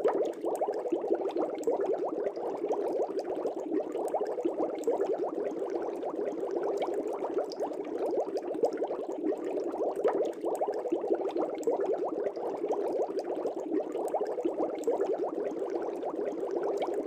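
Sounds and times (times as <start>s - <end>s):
air bubbles in fish tank: 0.0s - 17.0s.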